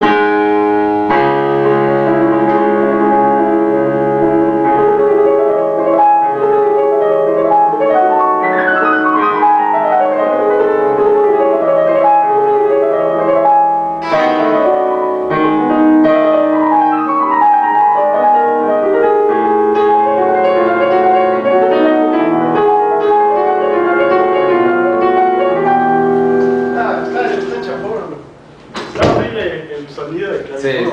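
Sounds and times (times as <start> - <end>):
piano playing chords and melody: 0.0 - 29.3.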